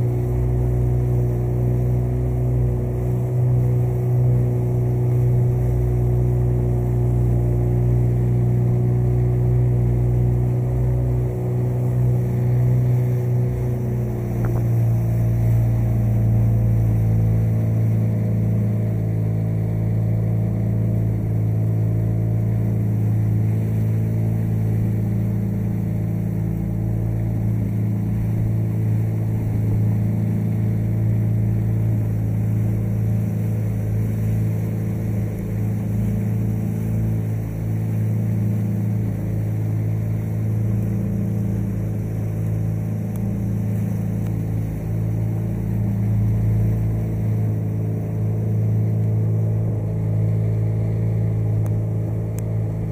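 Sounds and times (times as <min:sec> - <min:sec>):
motorboat engine droning: 0:00.0 - 0:52.9.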